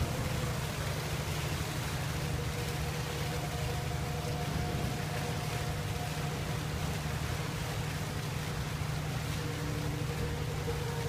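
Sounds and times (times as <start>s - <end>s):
boat engine droning: 0.0s - 11.0s
wake churning water: 0.0s - 11.0s.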